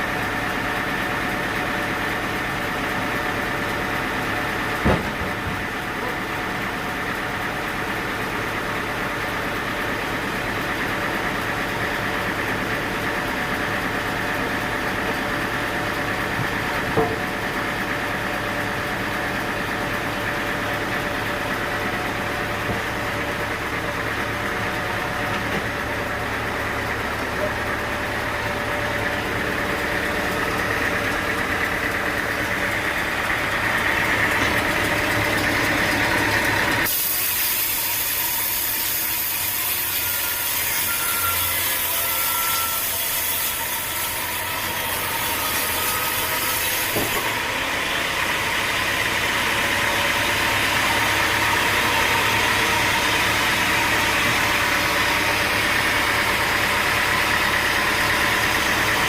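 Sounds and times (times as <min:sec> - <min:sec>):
sawmill machinery hum: 0:00.0 - 0:59.0.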